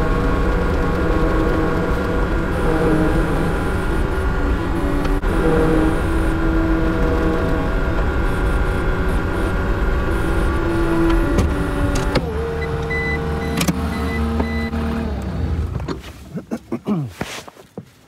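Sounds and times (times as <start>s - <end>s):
hydraulics whining: 0.0s - 16.1s
engine running: 0.0s - 16.4s.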